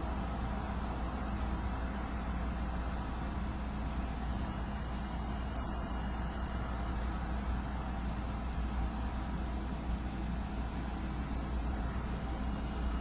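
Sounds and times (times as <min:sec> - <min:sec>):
hard drive whine: 0:00.0 - 0:13.0
low hum: 0:00.0 - 0:13.0.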